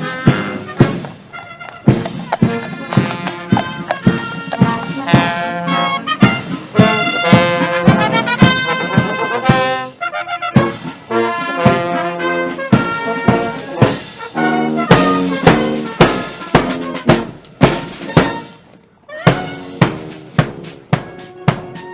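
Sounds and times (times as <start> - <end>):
brass fanfare: 0.0 - 21.9.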